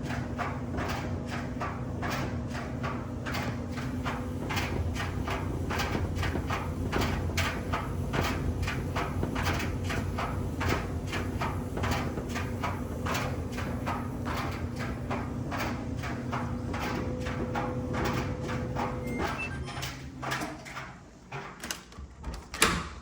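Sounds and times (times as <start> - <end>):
rhythmic knocking rattle: 0.0 - 19.4
dryer motor and drum hum: 0.0 - 23.0.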